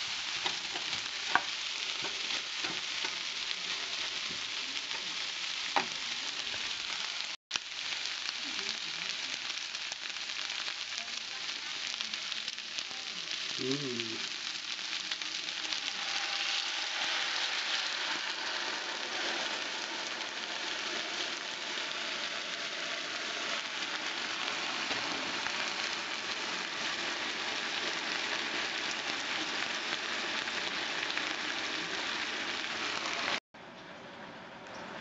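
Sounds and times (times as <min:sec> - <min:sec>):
stir fry sizzling in pan: 0:00.0 - 0:33.4.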